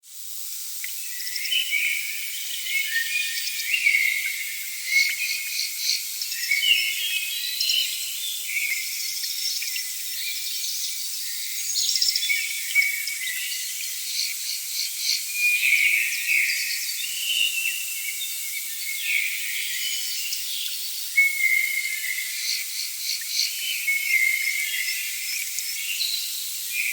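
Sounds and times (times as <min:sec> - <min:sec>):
insects chirping and trilling: 0:00.2 - 0:26.9.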